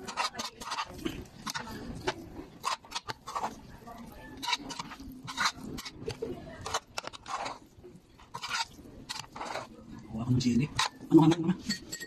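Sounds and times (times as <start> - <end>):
faint voices: 0.0 - 11.6
utensil scraping metal bowl: 0.0 - 12.0.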